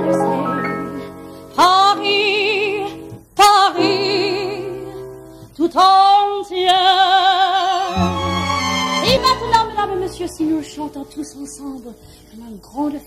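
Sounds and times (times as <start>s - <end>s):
woman singing with vibrato: 0.0s - 1.0s, 1.6s - 4.9s, 5.6s - 13.0s.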